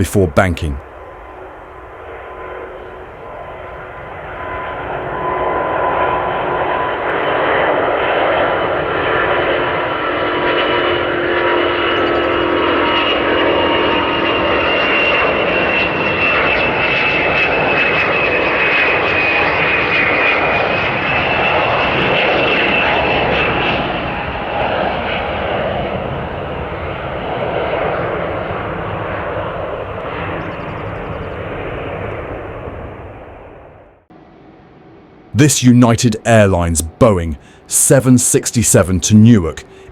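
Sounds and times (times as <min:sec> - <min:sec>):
jet engine high whine: 0:00.0 - 0:39.9
jet engine roar: 0:00.0 - 0:39.9.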